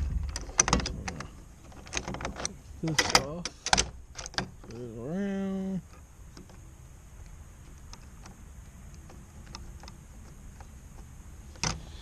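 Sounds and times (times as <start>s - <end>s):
low steady background rumble: 0.0s - 12.0s.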